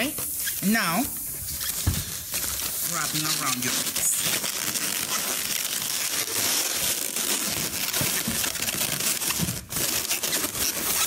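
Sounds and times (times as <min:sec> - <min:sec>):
balloons rubbing together: 0:00.0 - 0:11.0.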